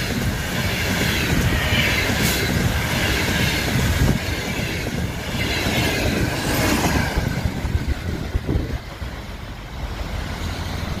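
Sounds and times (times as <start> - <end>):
train wheels rolling on rails: 0.0 - 11.0.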